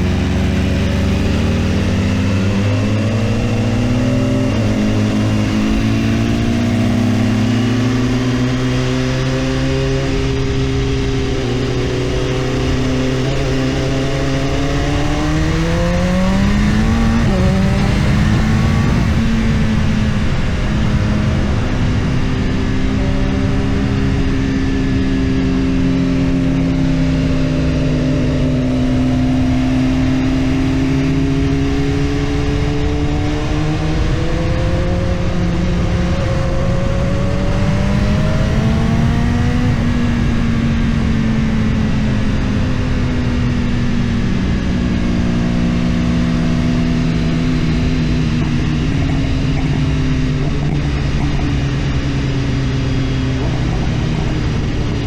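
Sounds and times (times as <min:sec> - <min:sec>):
motorcycle engine running: 0:00.0 - 0:55.0
rush of noise: 0:00.0 - 0:55.0.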